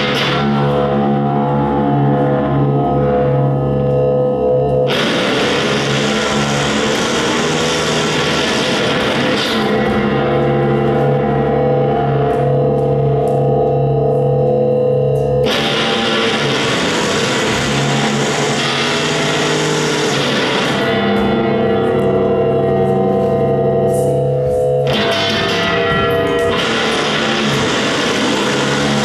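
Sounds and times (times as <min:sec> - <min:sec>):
distorted electric guitar drone: 0:00.0 - 0:29.0.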